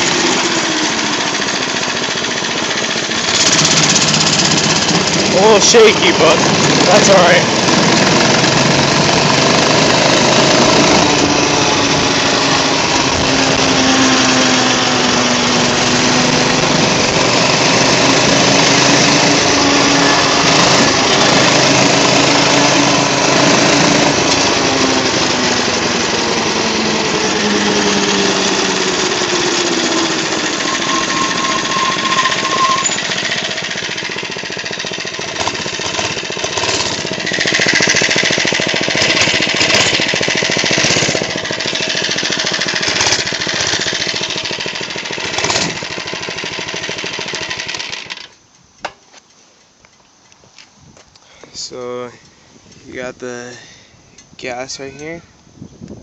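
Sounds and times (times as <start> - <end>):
mini bike engine revving: 0.0 - 48.4.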